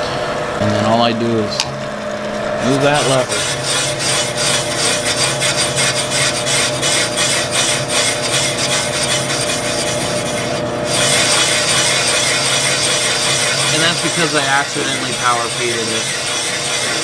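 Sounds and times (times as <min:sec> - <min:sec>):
cutter scraping cast iron: 0:00.0 - 0:17.0
motor hum: 0:00.0 - 0:17.0.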